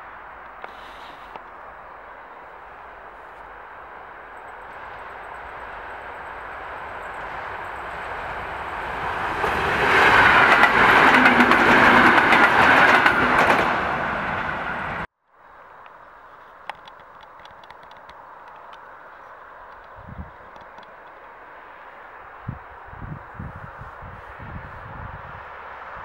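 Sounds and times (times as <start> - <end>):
train passing rumble: 0.0 - 26.0.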